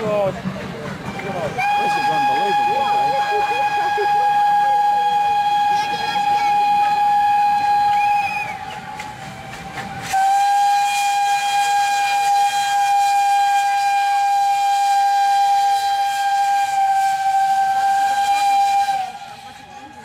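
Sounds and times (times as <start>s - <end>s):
steam locomotive whistle: 1.5s - 20.0s.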